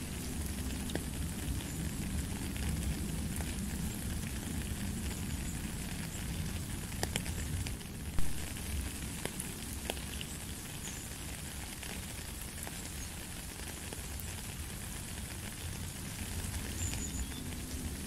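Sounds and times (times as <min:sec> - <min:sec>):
rain falling into a puddle: 0:00.0 - 0:18.0
sharp water drips: 0:00.0 - 0:18.0.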